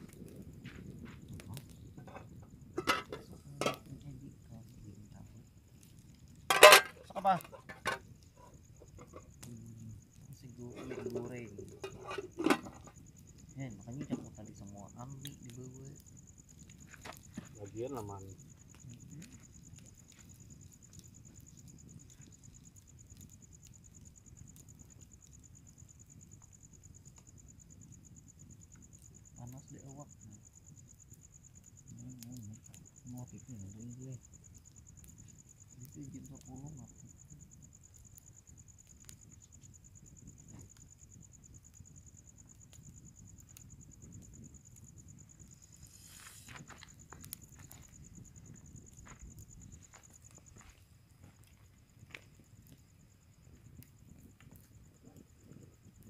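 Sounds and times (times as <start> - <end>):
campfire crackling: 0.0 - 56.0
insect trilling: 6.4 - 56.0.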